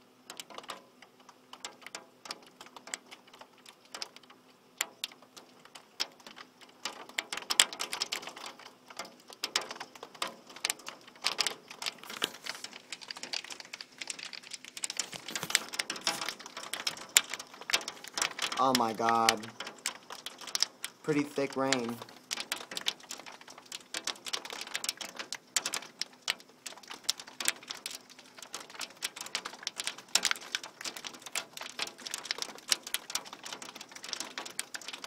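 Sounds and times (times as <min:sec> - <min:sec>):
heavy rain and hail pelting: 0:00.3 - 0:35.0.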